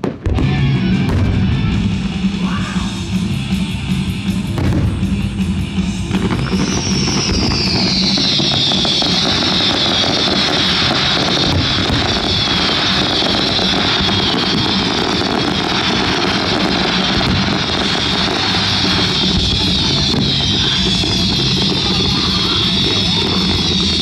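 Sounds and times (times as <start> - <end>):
fireworks roaring hiss: 0.0 - 24.0
rock music: 0.1 - 24.0.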